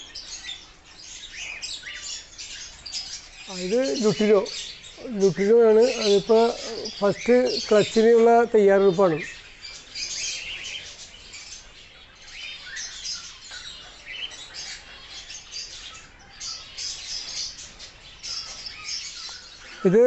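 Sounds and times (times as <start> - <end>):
caged birds chirping: 0.0 - 20.0.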